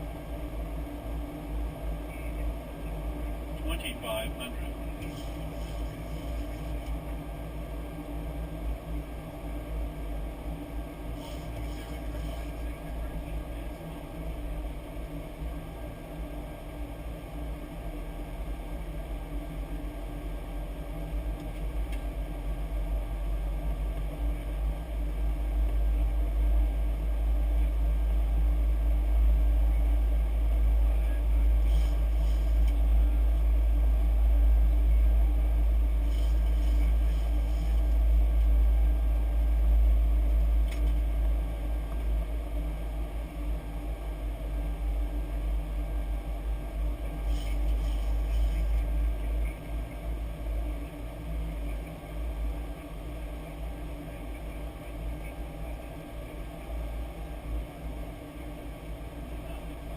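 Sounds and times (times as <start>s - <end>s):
airplane engine rumble in cockpit: 0.0s - 59.9s
steady hum: 0.0s - 59.9s.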